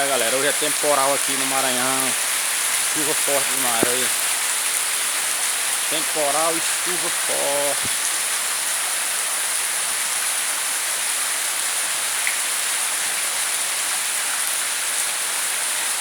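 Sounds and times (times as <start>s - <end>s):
hard rain falling: 0.0s - 16.0s.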